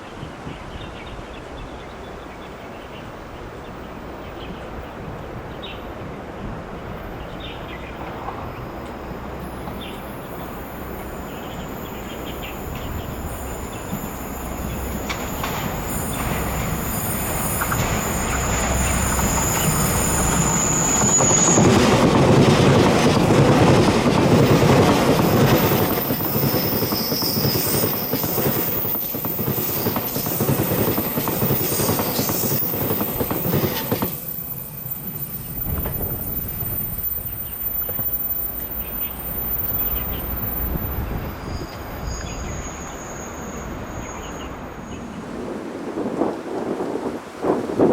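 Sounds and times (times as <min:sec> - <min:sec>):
electric train passing: 0:02.6 - 0:47.8.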